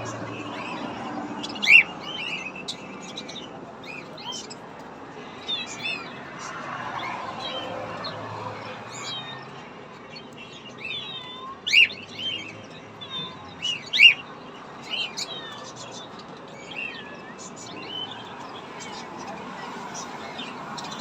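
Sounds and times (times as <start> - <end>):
caged birds chirping: 0.0 - 21.0.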